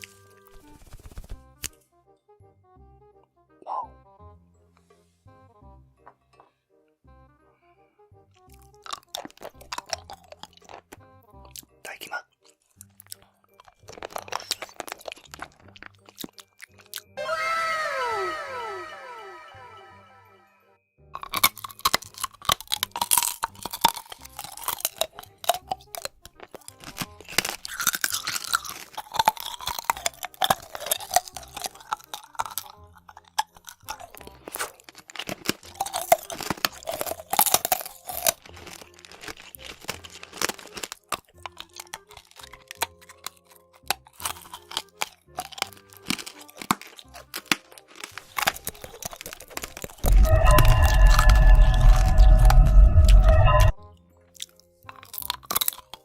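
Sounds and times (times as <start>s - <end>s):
crunching and chewing crisp food: 0.0s - 1.8s, 8.3s - 17.7s, 21.1s - 56.0s.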